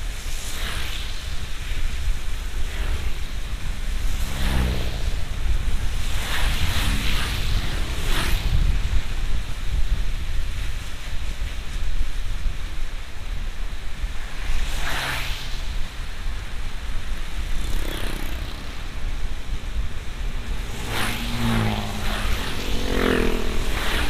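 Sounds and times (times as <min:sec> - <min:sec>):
passing vehicle engines: 0:00.0 - 0:11.7, 0:12.7 - 0:24.0.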